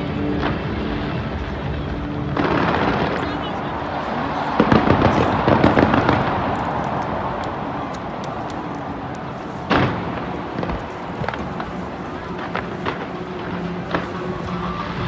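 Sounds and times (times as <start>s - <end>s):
fireworks bangs and crackling: 0.0s - 15.0s
steady background din: 0.0s - 15.0s.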